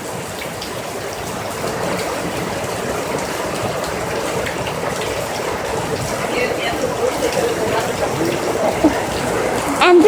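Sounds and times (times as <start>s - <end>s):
heavy rain pouring: 0.0s - 10.0s
rain splashing into puddles: 0.0s - 10.0s.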